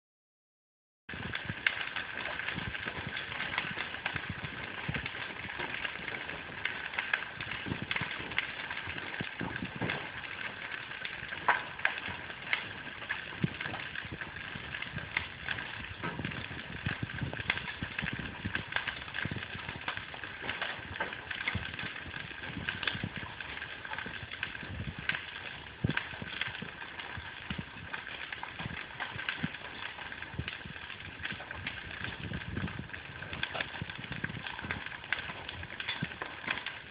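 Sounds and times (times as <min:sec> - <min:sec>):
hailstones hitting hard surfaces: 0:01.1 - 0:36.9.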